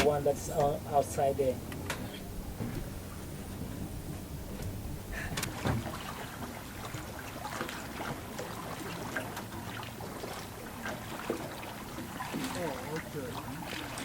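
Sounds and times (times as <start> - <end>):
water lapping against boat hull: 0.0 - 14.0.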